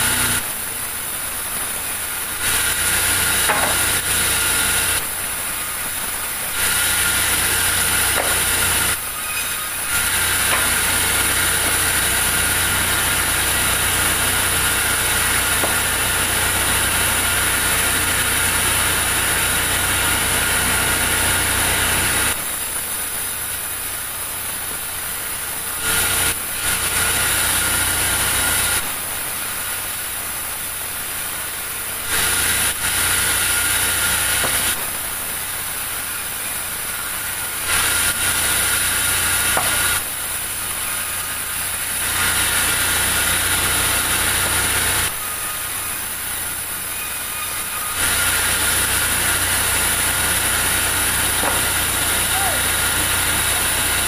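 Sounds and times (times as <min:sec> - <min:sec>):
band saw cutting log: 0:00.0 - 0:00.6, 0:02.2 - 0:22.5, 0:25.6 - 0:30.0, 0:31.7 - 0:54.0
band saw running idle: 0:00.0 - 0:54.0.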